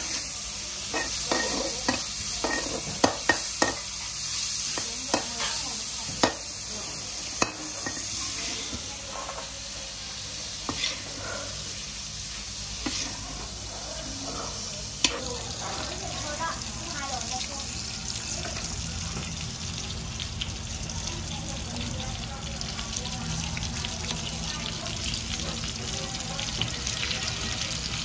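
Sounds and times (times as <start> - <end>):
food sizzling in frying: 0.0 - 28.0.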